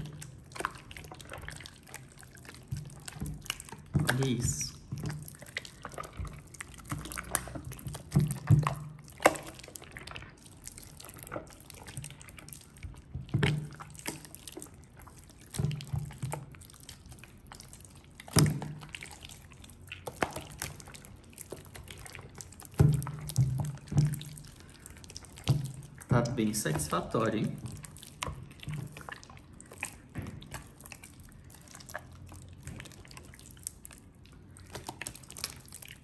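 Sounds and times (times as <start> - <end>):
slime squelching: 0.0 - 36.0.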